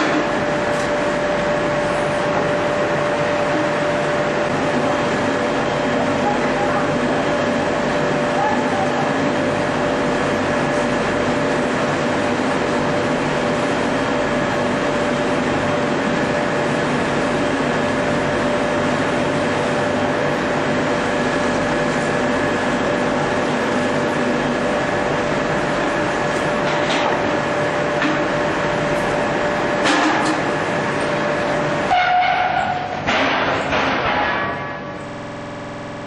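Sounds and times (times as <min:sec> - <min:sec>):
motor and drive noise: 0:00.0 - 0:36.0
rolling mill machine hum: 0:00.0 - 0:36.0.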